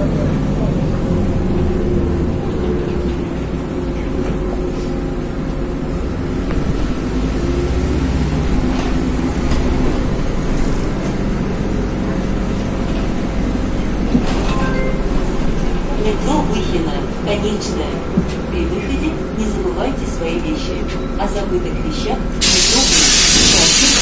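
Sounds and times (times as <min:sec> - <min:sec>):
bus diesel engine humming: 0:00.0 - 0:24.0.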